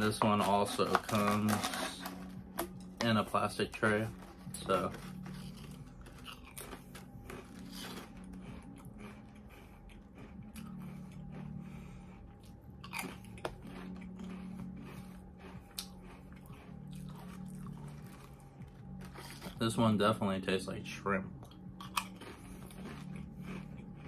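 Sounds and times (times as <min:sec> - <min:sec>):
person chewing crisp chips: 0:00.0 - 0:20.2, 0:20.9 - 0:24.0.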